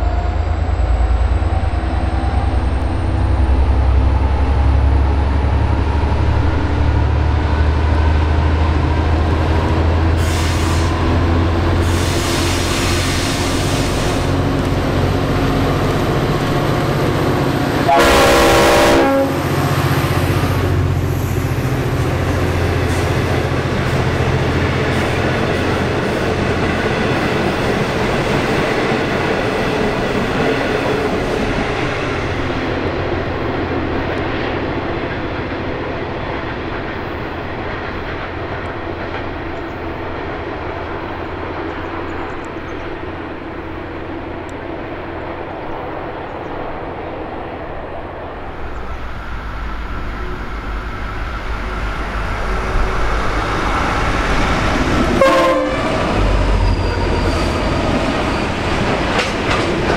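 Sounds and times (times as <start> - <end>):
diesel locomotive engine rumble: 0.0 - 59.9
train carriages running on rails: 0.0 - 59.9.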